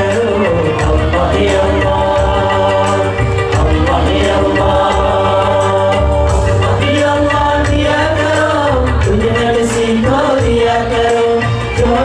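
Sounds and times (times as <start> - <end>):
amplified accompaniment with bass: 0.0 - 12.0
man singing through pa: 0.0 - 12.0.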